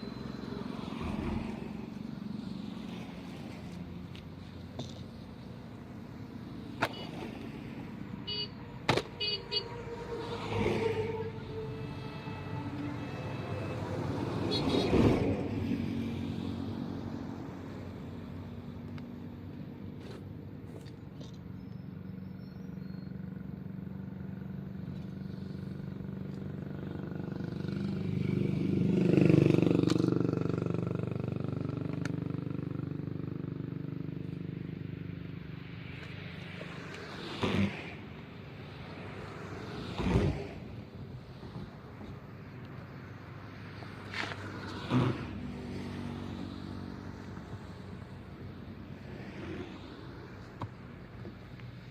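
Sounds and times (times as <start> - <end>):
vehicle engines passing by: 0.0 - 51.9.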